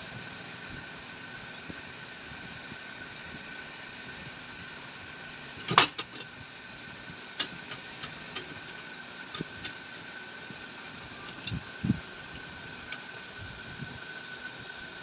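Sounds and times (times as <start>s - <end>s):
steady hum with faint whine: 0.0s - 15.0s.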